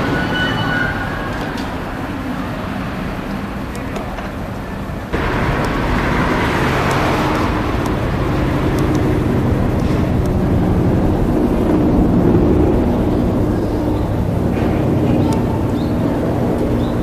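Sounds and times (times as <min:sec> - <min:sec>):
road traffic noise: 0:00.0 - 0:17.0
low engine hum: 0:01.4 - 0:17.0.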